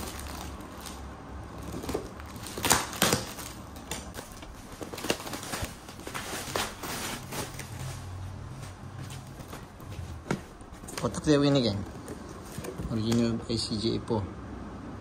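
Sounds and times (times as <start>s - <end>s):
parcel rustling: 0.0s - 13.0s.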